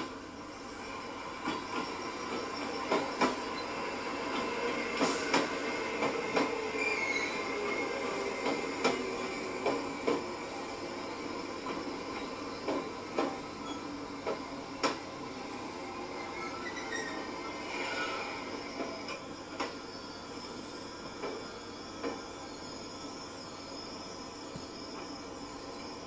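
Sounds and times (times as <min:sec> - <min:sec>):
electric train running: 0:00.0 - 0:26.0.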